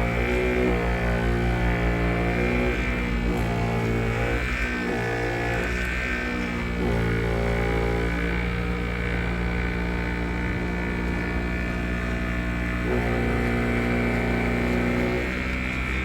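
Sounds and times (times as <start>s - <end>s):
electric polisher running: 0.0s - 16.0s.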